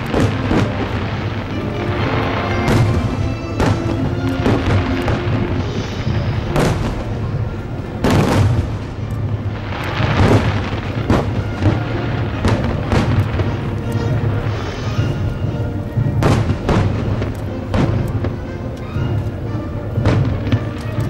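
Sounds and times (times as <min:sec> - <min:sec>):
fireworks bursting: 0:00.0 - 0:21.0
music with sustained tones: 0:00.0 - 0:21.0.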